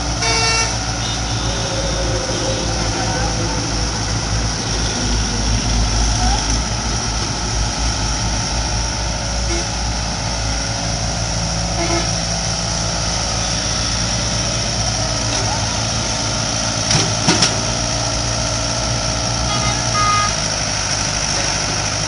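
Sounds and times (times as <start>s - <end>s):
excavator diesel engine rumbling: 0.0s - 22.0s.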